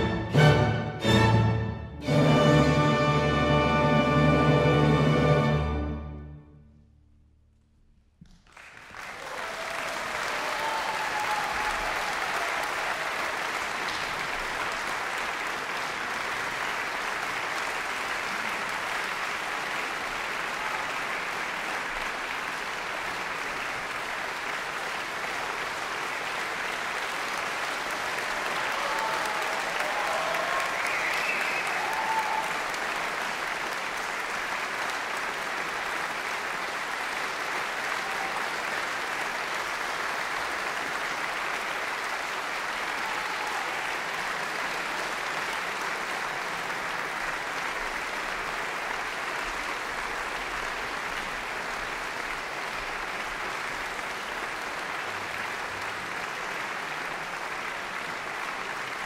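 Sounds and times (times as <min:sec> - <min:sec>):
audience applauding: 0:08.2 - 0:59.0.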